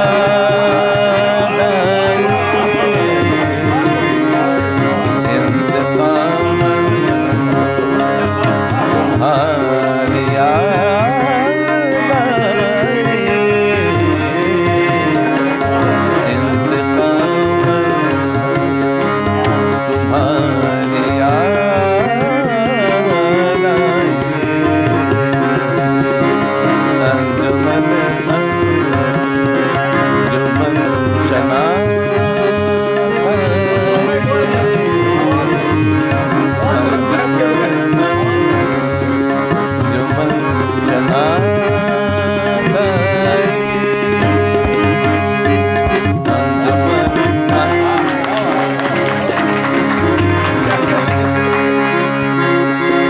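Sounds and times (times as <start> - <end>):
harmonium chords: 0.0 - 53.0
ornamented sliding melody: 0.0 - 53.0
tabla rhythm: 0.0 - 53.0.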